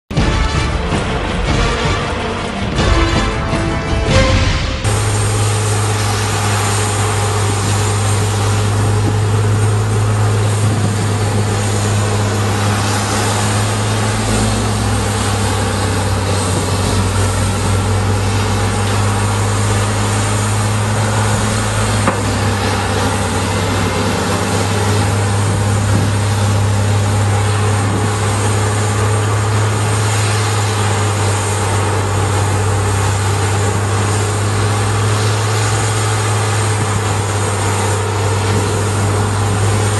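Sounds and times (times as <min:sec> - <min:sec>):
grinder diesel engine drone: 0:00.0 - 0:39.9
wheel loader engine: 0:00.0 - 0:39.9.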